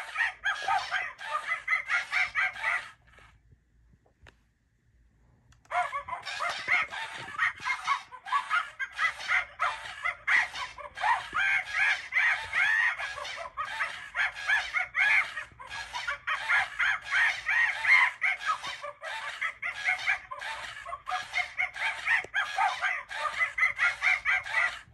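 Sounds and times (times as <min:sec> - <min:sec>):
toy monkey chattering and screeching: 0:00.0 - 0:03.2, 0:05.7 - 0:24.9.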